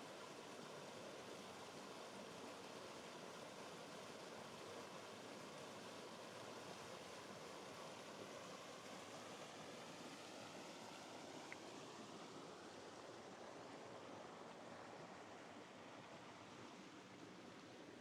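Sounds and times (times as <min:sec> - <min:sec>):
small waterfall running water: 0:00.0 - 0:18.0.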